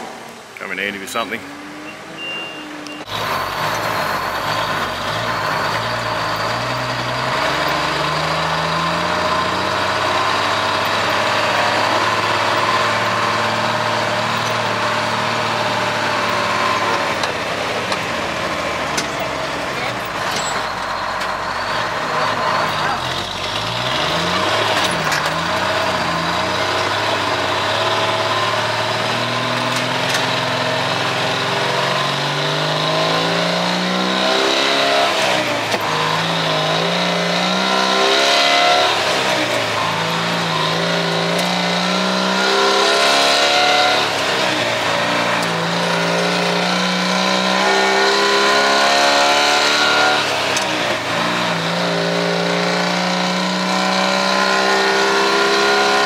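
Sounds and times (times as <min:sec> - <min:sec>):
diesel truck engine accelerating: 0:00.0 - 0:56.0.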